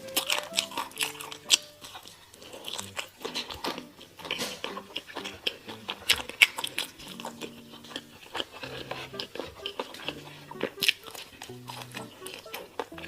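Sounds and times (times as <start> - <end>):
crisp crunches and bites: 0.0 - 13.0
wet chewing: 0.0 - 13.0.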